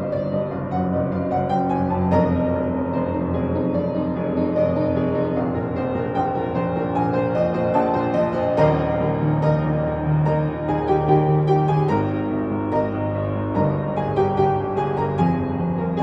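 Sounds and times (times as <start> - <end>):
piano playing pop song: 0.0 - 16.0.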